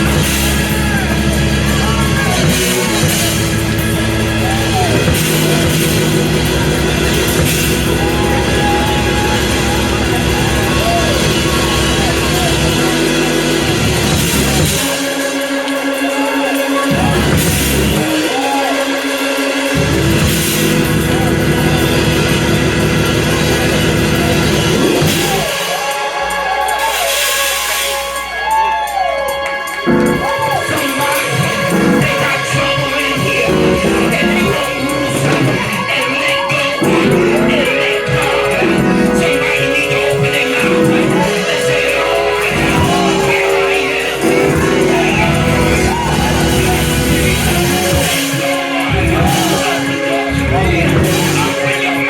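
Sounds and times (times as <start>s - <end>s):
sustained bass notes: 0.0s - 18.5s, 19.6s - 25.7s, 29.6s - 52.0s
drum kit: 0.0s - 52.0s
live band music: 0.0s - 52.0s.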